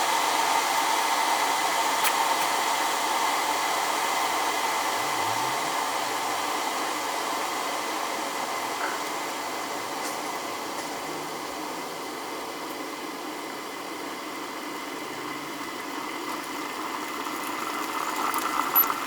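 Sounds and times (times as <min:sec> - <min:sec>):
kettle heating water: 0:00.0 - 0:19.0.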